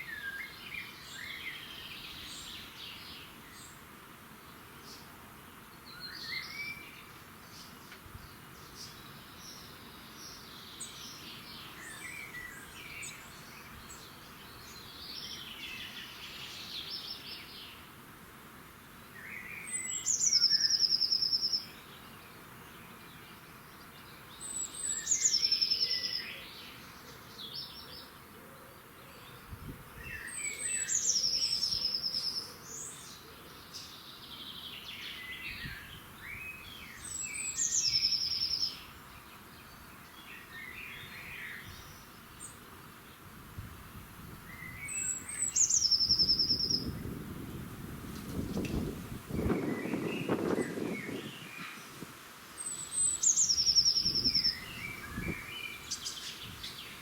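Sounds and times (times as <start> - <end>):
birds chirping quietly: 0.0 - 57.0.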